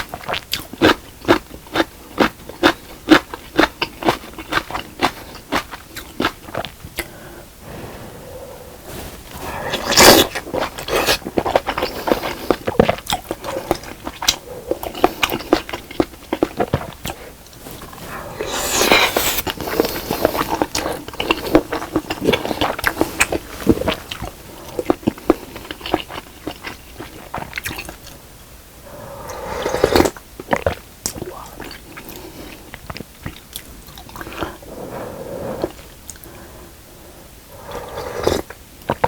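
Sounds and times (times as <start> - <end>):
person chewing food: 0.0 - 28.2, 28.8 - 36.5, 37.6 - 39.0.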